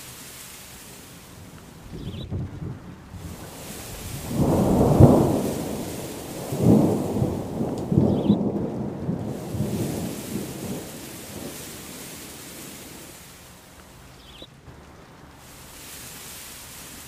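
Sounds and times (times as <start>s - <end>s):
rain hissing: 0.0s - 17.0s
thunder rumbling: 0.0s - 17.0s.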